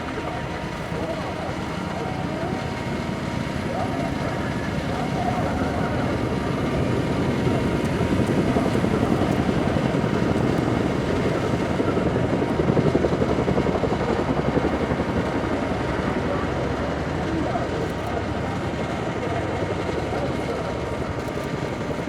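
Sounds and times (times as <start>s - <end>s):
helicopter rotor chop: 0.0s - 22.0s
turbine engine whine: 0.0s - 22.0s.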